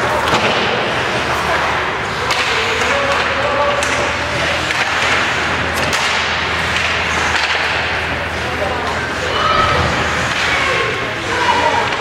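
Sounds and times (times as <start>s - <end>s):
hockey sticks and puck clacking: 0.0s - 12.0s
low rink hum: 0.0s - 12.0s
skates scraping ice: 0.0s - 12.0s.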